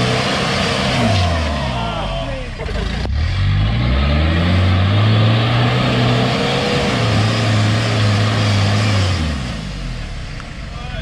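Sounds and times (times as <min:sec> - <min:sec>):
vehicle engine running at high revs: 0:00.0 - 0:10.6.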